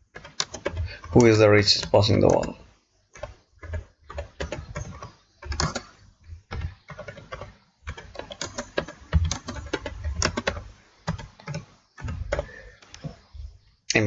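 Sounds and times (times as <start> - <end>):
computer keyboard typing: 0.0 - 13.4.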